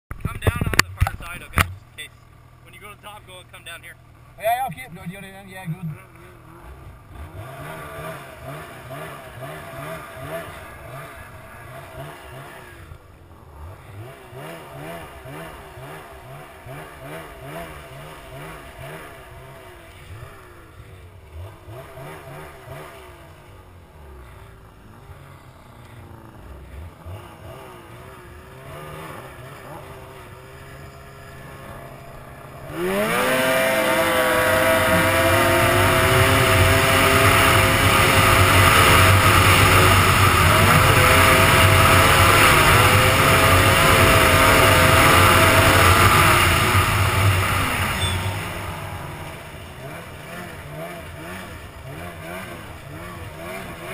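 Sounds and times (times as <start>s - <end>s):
snowmobile engine revving: 0.4s - 53.9s.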